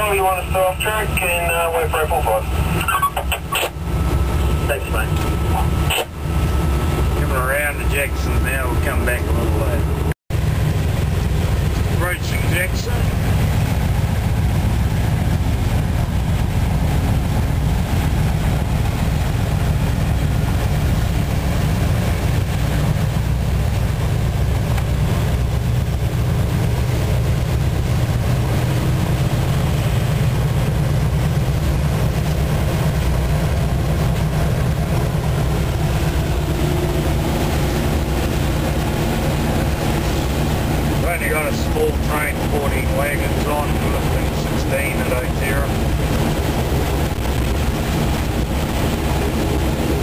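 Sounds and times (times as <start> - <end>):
locomotive engine drone: 0.0 - 50.0.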